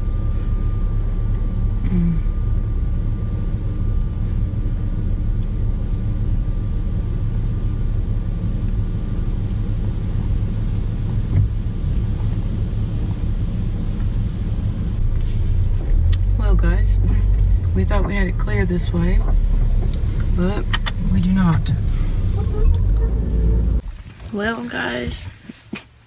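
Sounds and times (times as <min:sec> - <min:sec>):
faint steady whine: 0:00.0 - 0:26.0
truck engine and road rumble: 0:00.0 - 0:26.0.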